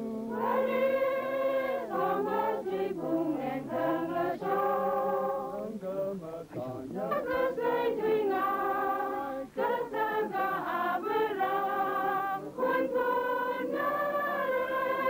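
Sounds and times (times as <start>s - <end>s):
women's choir singing a hymn: 0.0s - 15.0s.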